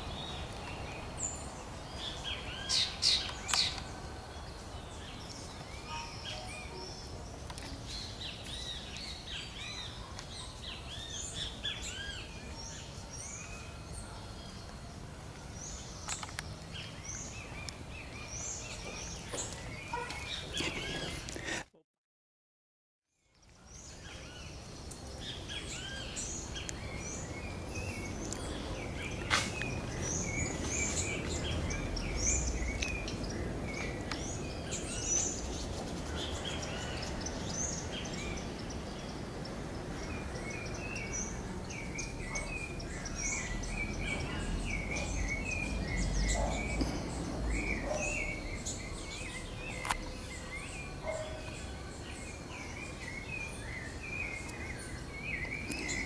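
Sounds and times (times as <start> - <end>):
birds chirping: 0.0 - 21.6, 23.2 - 56.0.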